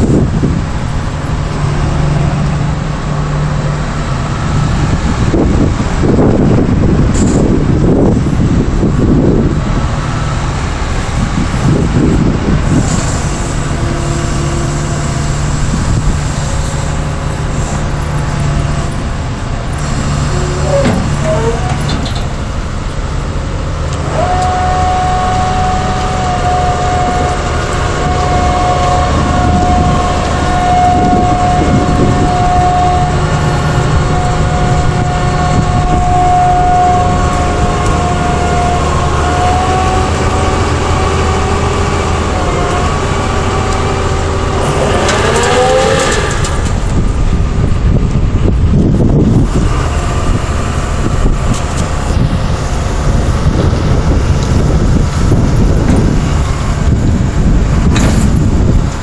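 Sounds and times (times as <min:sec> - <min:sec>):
diesel engine running: 0:00.0 - 0:59.0
steady high whine: 0:00.0 - 0:59.0.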